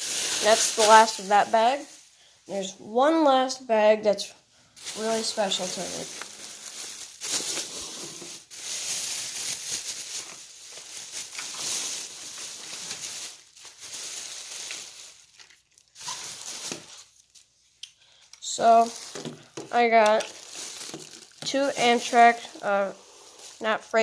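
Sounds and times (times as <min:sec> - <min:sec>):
plastic bag rustling and crinkling: 0:00.0 - 0:02.7, 0:04.8 - 0:17.8, 0:18.4 - 0:24.0.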